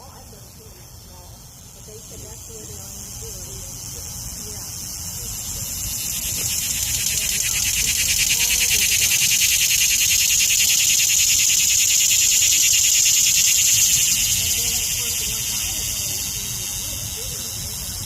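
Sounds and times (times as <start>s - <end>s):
cicada buzzing: 0.0s - 18.0s.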